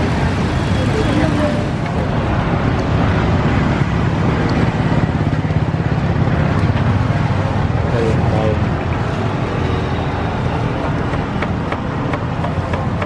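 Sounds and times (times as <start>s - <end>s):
busy street noise: 0.0s - 13.0s.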